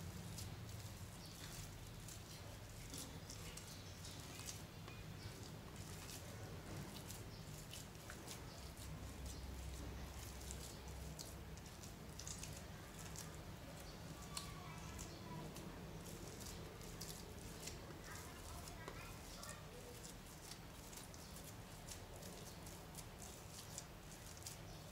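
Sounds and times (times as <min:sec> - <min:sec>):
slime squishing: 0:00.0 - 0:24.9.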